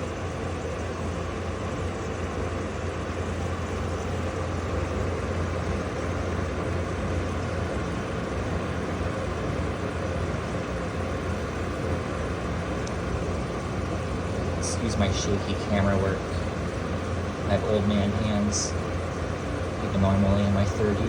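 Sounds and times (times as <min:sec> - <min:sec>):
compressor humming: 0:00.0 - 0:21.0
fan rushing air: 0:00.0 - 0:21.0.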